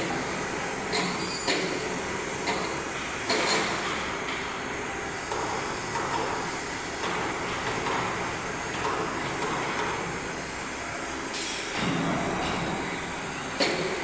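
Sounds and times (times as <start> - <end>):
workshop background noise: 0.0 - 14.0.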